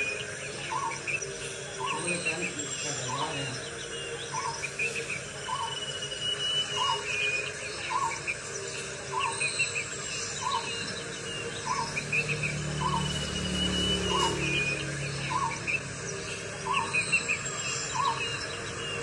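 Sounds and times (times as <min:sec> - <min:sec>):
higher bird chirps: 0:00.0 - 0:19.0.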